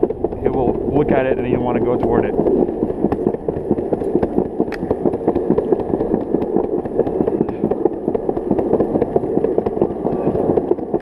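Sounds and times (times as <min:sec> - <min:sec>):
longboard wheels rolling on concrete: 0:00.0 - 0:11.0.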